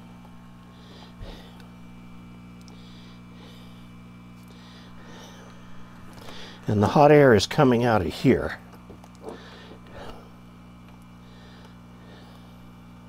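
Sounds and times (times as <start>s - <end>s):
blower fan humming: 0.0s - 13.0s.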